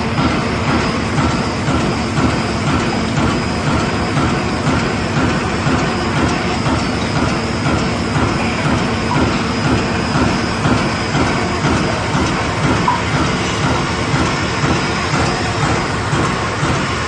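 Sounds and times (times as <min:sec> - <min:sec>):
punching machine clattering: 0:00.0 - 0:17.0.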